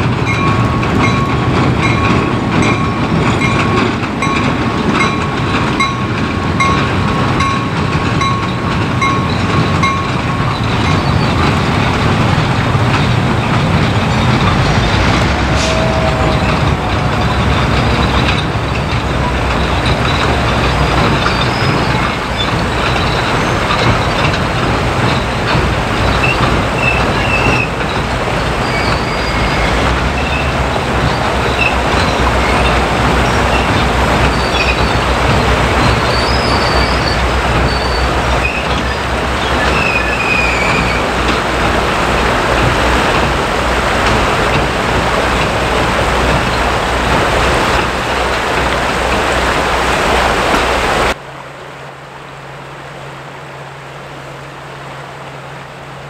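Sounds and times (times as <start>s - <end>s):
wheels squealing: 0.0s - 51.2s
diesel engine drone: 0.0s - 56.0s
train wheels rumbling on rails: 0.0s - 56.0s.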